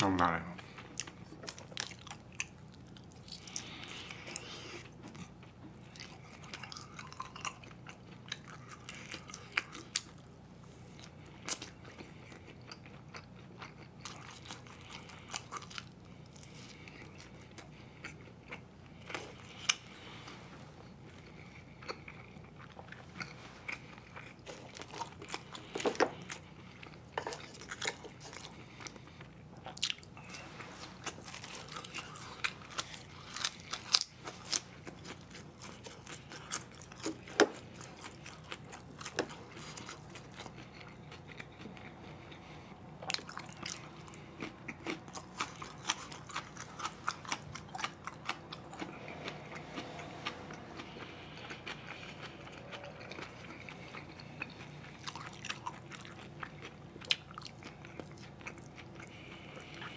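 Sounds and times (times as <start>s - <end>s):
man chewing and biting food: 0.6s - 59.9s.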